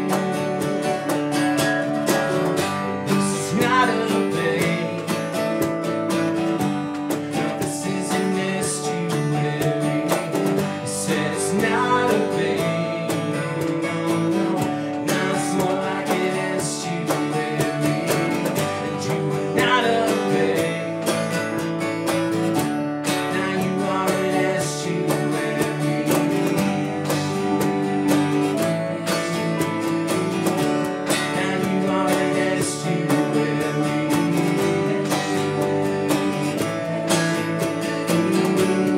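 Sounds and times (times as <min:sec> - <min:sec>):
electric bass: 0:00.0 - 0:38.9
stage keyboard: 0:00.0 - 0:38.9
strummed acoustic guitar: 0:00.0 - 0:38.9.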